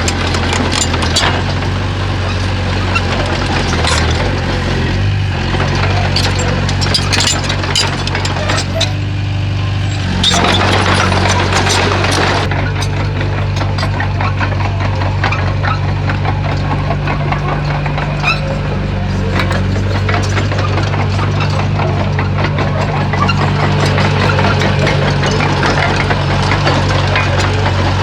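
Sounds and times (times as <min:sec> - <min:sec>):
cracking snapping and scraping: 0:00.0 - 0:09.1, 0:09.8 - 0:28.0
bulldozer diesel engine running: 0:00.0 - 0:28.0.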